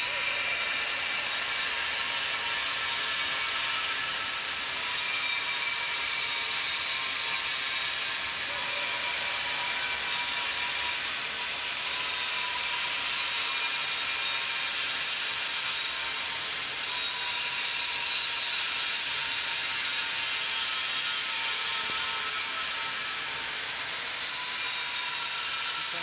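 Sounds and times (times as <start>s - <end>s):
angle grinder grinding steel: 0.0s - 26.0s.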